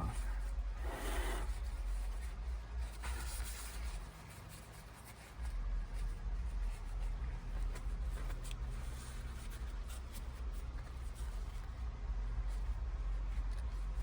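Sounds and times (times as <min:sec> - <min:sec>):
low rumble: 0:00.0 - 0:04.0, 0:05.4 - 0:14.0
scratchy rubbing handling noise: 0:00.0 - 0:14.0.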